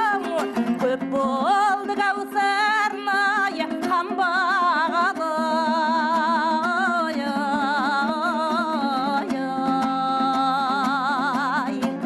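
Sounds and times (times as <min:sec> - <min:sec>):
person singing with wide vibrato: 0:00.0 - 0:12.0
strummed lute: 0:00.0 - 0:12.0.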